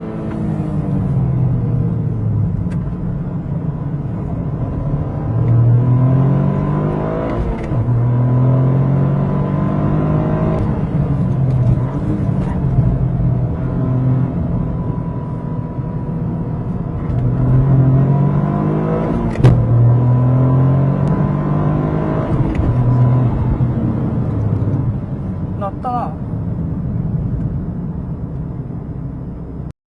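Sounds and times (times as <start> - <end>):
car engine accelerating: 0.0 - 29.7.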